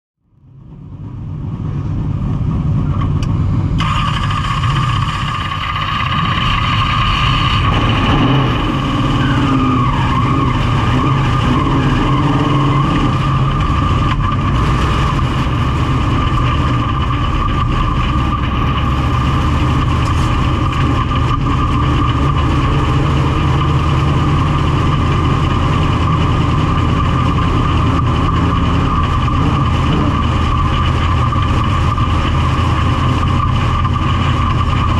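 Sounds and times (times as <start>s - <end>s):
steady high whine: 0.2s - 34.9s
race car engine running: 0.3s - 34.9s.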